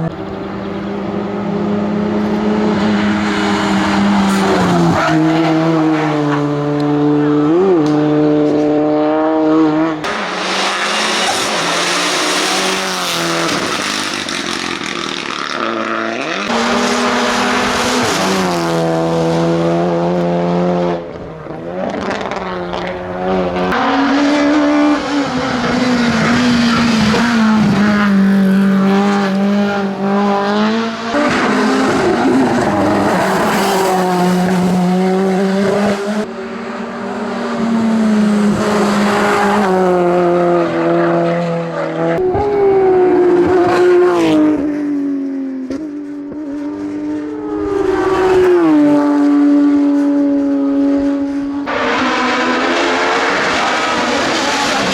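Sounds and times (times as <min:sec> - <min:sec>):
racing car engines revving: 0:00.0 - 0:54.9.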